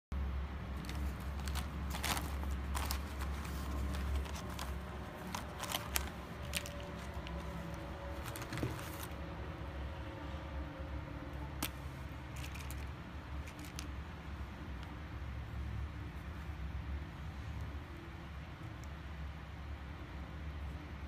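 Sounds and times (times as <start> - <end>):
low steady hum: 0.1 - 21.0.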